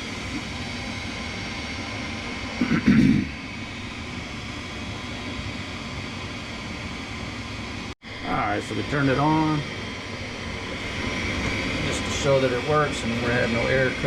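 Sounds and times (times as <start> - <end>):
furnace motor and airflow hum: 0.0 - 14.0.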